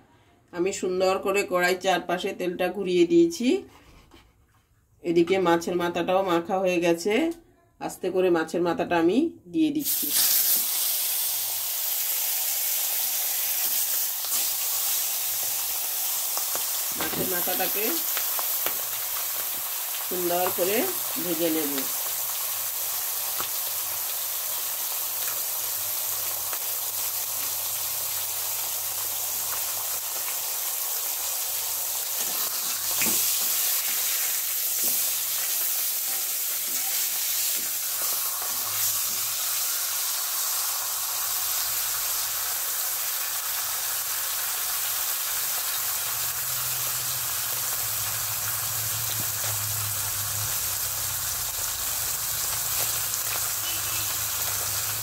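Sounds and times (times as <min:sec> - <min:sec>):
fish sizzling in hot oil: 0:09.8 - 0:55.0.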